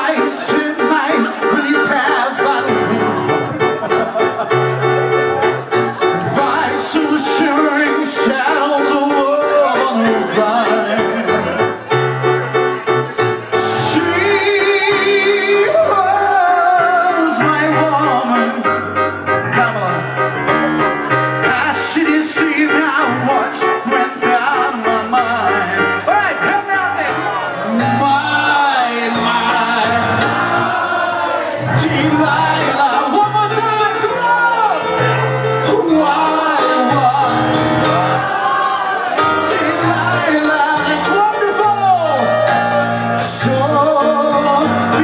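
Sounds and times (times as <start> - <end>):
man singing: 0.0 - 3.8, 6.2 - 30.8, 31.6 - 45.0
live pop band: 0.0 - 45.0.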